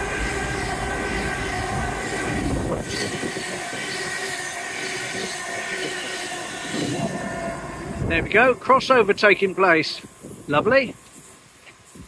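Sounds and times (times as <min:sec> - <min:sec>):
steady whining tones: 0:00.0 - 0:12.0
train rumble: 0:00.0 - 0:12.0.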